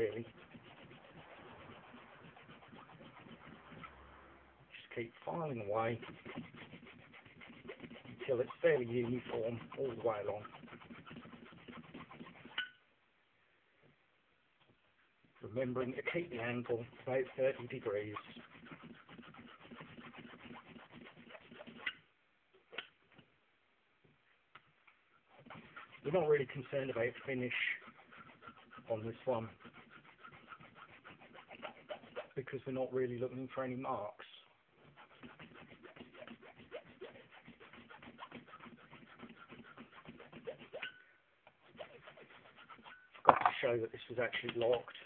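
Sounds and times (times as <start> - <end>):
file rasping on metal: 0.0 - 4.0, 5.0 - 12.8, 15.5 - 22.0, 25.3 - 34.0, 34.8 - 41.0, 41.6 - 45.0.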